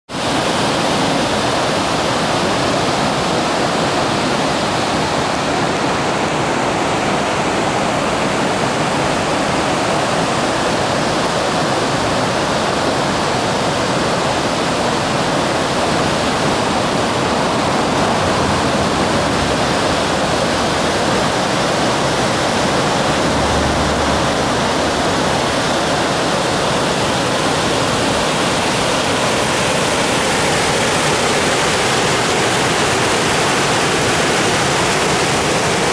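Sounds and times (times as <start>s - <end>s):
water rushing over rocks: 0.1s - 35.9s.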